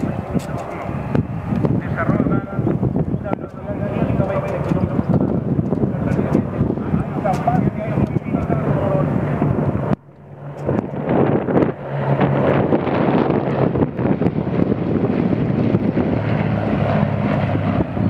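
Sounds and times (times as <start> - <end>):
aircraft engine drone: 0.0 - 18.0
wind buffeting microphone: 0.0 - 18.0.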